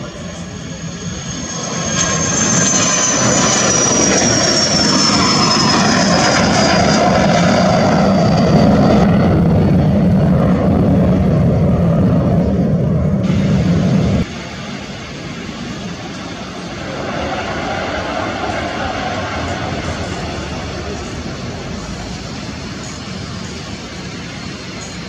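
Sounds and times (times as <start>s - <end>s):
high engine whine: 0.0s - 25.0s
jet engines roaring: 0.0s - 25.0s.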